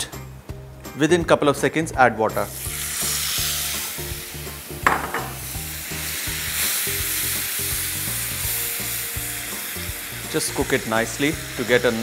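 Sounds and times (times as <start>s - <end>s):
chilli sizzling in hot oil: 2.2s - 12.0s.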